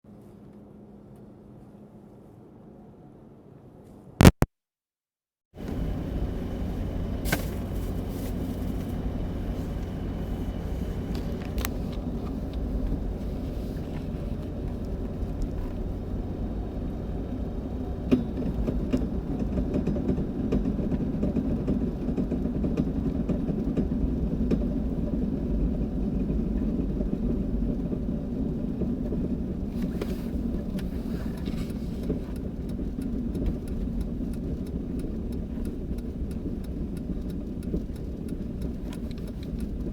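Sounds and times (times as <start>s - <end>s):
car engine rumbling: 5.6s - 39.9s.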